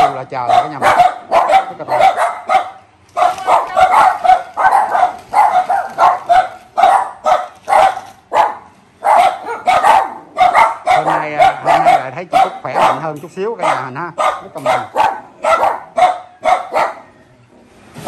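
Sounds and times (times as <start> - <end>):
small dog barking: 0.0 - 17.2.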